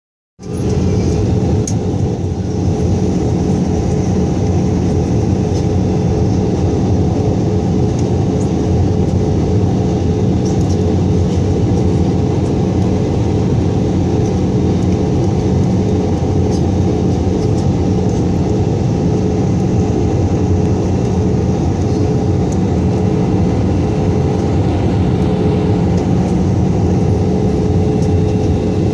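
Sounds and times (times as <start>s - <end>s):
airliner cabin engine rush: 0.4s - 28.9s
constant hum: 0.4s - 28.9s
low drone: 0.4s - 28.9s.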